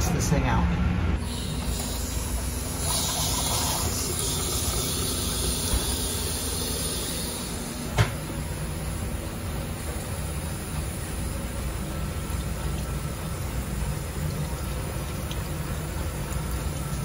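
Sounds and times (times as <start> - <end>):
water running into steel sink: 1.2 - 7.9, 8.5 - 17.0.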